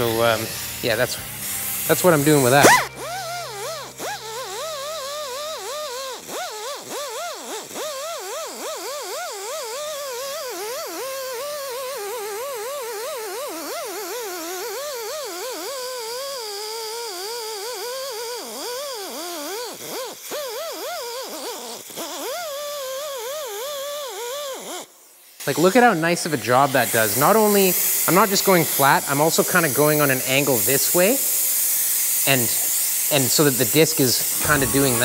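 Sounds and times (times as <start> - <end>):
rotary sander whining on metal: 0.0 - 35.0.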